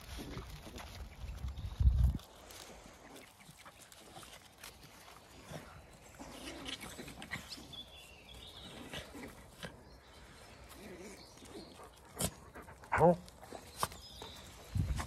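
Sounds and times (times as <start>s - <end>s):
dogs scuffling on gravel: 0.0s - 15.0s
small dog noises: 2.5s - 15.0s.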